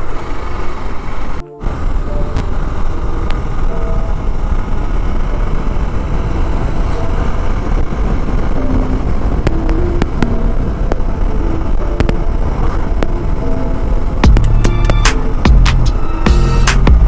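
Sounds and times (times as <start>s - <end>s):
wind rumble on microphone: 0.0s - 17.0s
motorcycle engine running: 1.2s - 17.0s.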